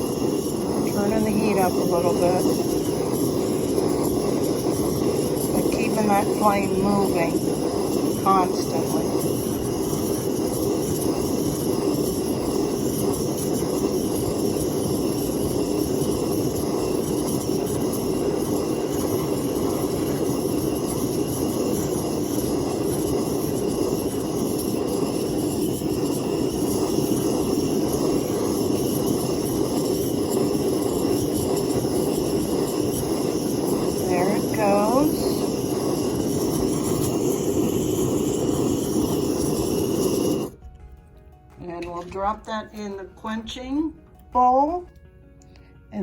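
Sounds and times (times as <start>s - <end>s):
soldering torch burning: 0.0s - 40.6s.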